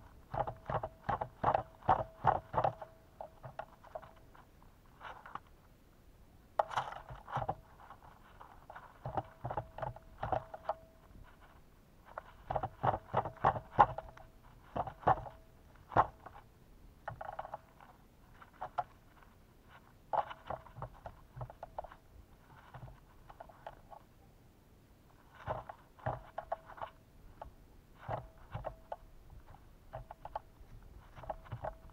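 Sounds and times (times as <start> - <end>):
birds pecking at a feeder: 0.0 - 5.7, 6.5 - 24.3, 25.2 - 31.9.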